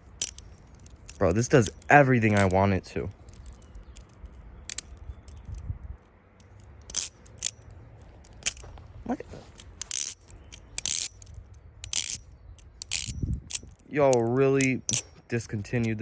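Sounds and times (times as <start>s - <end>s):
butterfly knife handles clacking: 0.0s - 16.0s.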